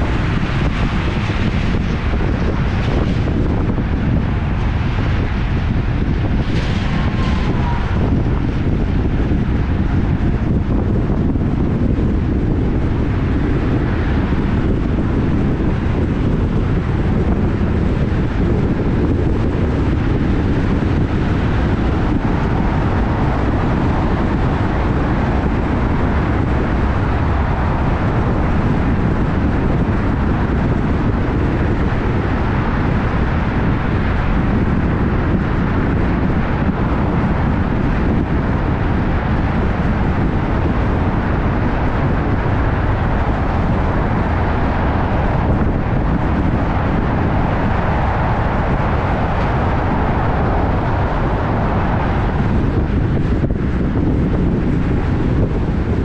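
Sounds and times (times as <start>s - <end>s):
moving vehicle rumble and wind: 0.0s - 56.0s.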